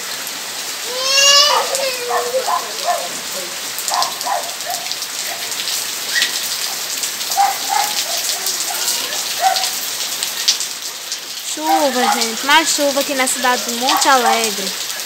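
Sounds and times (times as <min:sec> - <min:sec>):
rain falling on leaves: 0:00.0 - 0:15.0.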